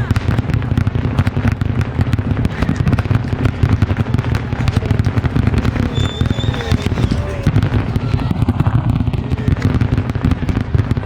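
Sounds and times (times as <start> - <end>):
deep rumble: 0.0 - 11.0
fireworks crackling: 0.0 - 11.0
fireworks exploding: 0.0 - 11.0.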